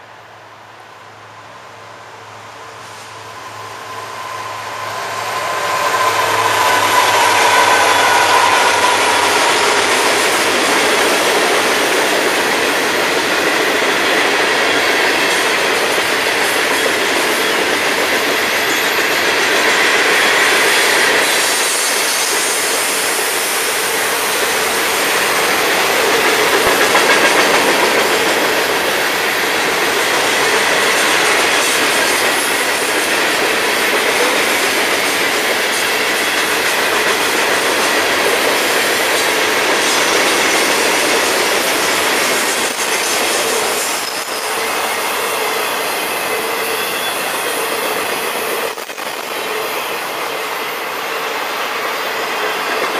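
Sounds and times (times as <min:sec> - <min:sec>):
freight train wheels rattling: 0:02.6 - 0:52.9.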